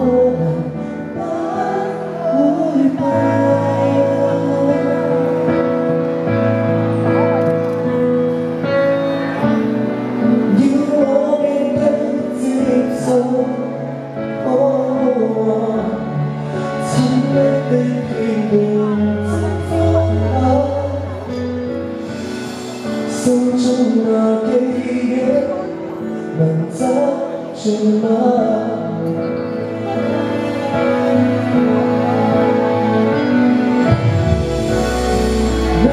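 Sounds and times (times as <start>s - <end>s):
man singing into microphone: 0.0s - 6.2s, 9.4s - 22.1s, 22.8s - 35.9s
pop backing track over speakers: 0.0s - 35.9s.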